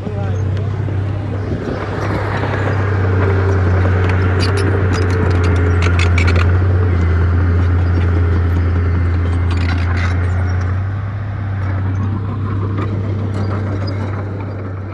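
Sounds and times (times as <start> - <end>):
bulldozer diesel engine droning: 0.0 - 14.9.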